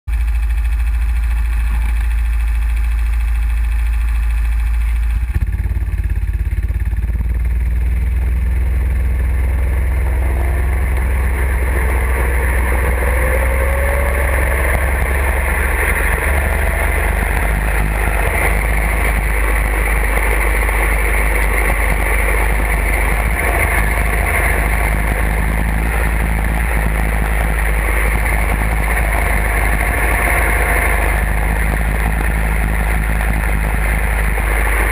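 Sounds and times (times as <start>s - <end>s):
go-kart engine accelerating: 5.1s - 34.9s.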